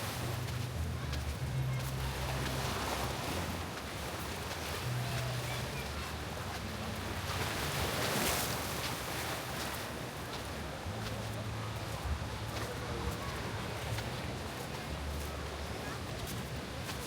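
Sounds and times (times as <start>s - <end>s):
surf and wind noise: 0.0s - 17.0s.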